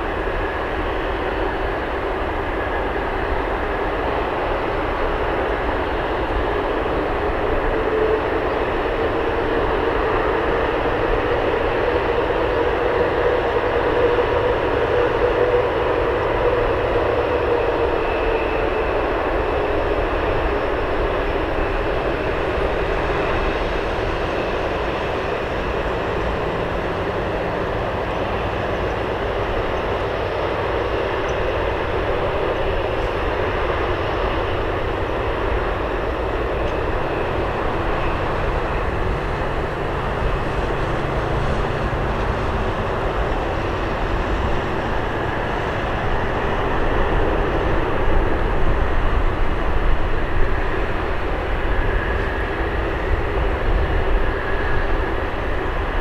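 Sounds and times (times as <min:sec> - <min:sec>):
jet engines humming: 0:00.0 - 0:56.0.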